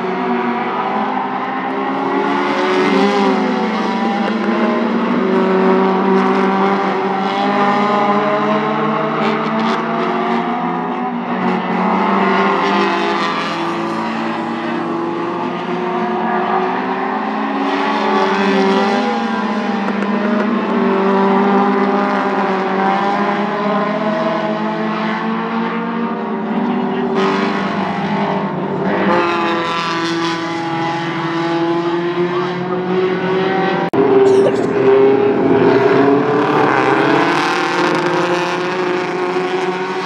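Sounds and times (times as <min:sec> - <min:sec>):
race car engines passing: 0:00.0 - 0:40.0.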